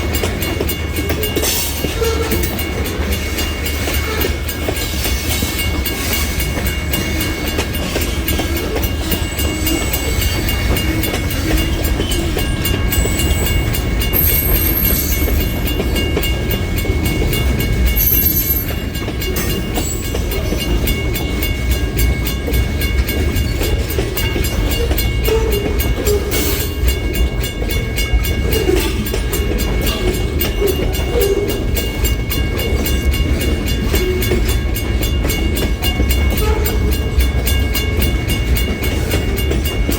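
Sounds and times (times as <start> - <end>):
freight train rumbling past: 0.0 - 39.9
wheels clacking on rails: 0.0 - 39.9.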